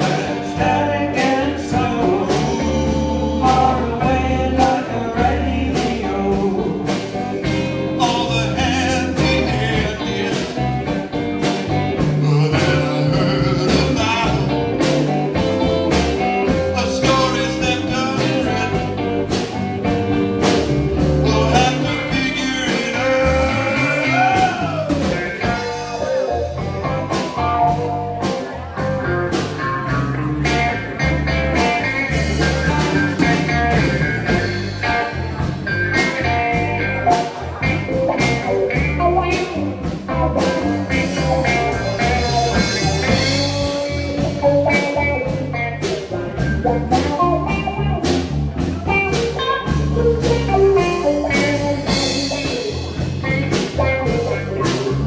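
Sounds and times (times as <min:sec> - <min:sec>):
person singing: 0:00.0 - 0:11.0, 0:12.0 - 0:19.6, 0:21.0 - 0:48.2
blues-rock band playing: 0:00.0 - 0:55.0.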